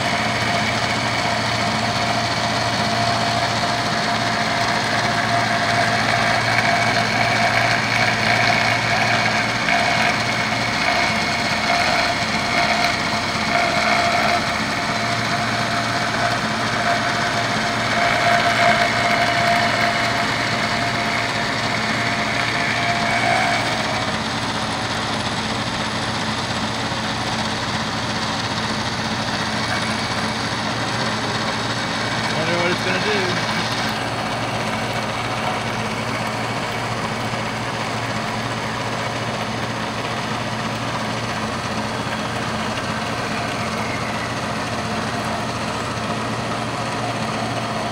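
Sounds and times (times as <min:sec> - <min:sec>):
milling cutter whine: 0:00.0 - 0:47.9
milling machine hum: 0:00.0 - 0:47.9.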